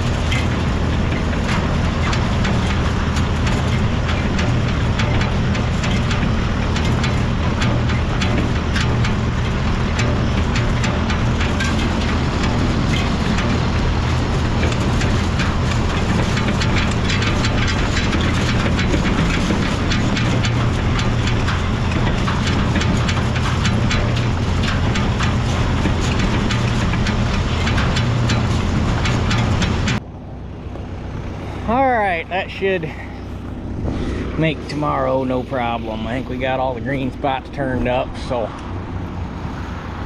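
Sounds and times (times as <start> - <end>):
hay rake rattling clatter: 0.0 - 40.0
tractor engine running: 0.0 - 40.0.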